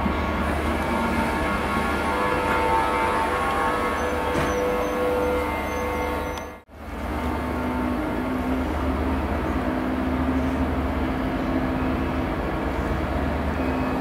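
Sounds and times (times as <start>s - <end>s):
diesel train drone: 0.0s - 14.0s.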